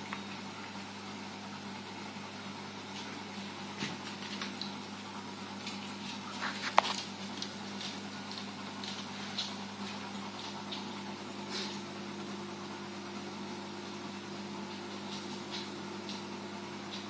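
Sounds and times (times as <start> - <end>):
aquarium equipment hum and hiss: 0.0 - 17.0.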